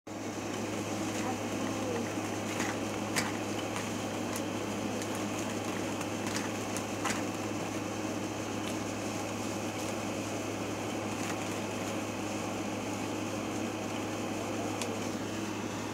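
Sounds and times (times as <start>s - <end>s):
room hum: 0.1s - 15.9s.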